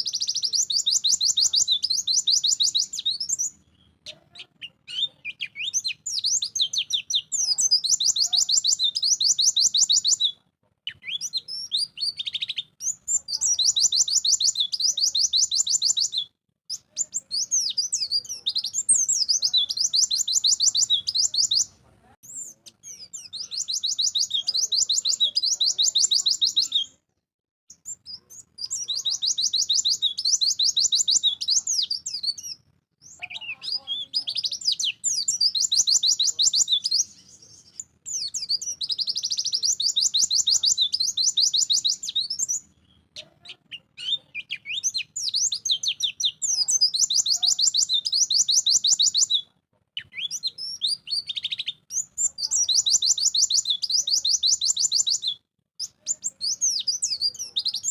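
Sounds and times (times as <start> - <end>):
bird singing high chattering trills: 0.0 - 27.0, 27.7 - 57.9.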